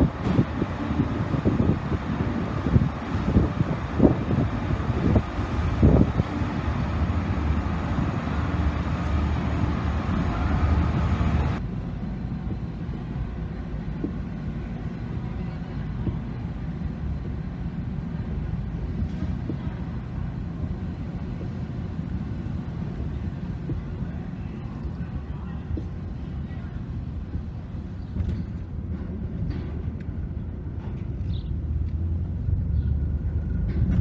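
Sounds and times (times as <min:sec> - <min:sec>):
low drone: 0:00.0 - 0:28.0
muffled low rumble inside car: 0:00.0 - 0:28.7.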